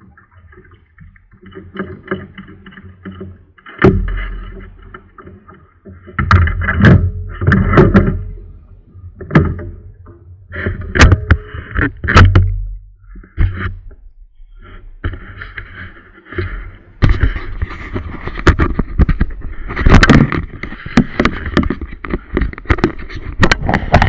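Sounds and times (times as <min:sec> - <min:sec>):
paddle strokes in water: 0:00.0 - 0:24.0.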